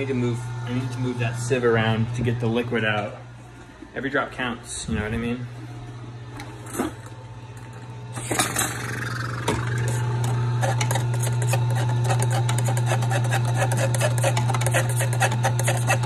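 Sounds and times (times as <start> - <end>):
juicer motor humming: 0.0 - 16.0.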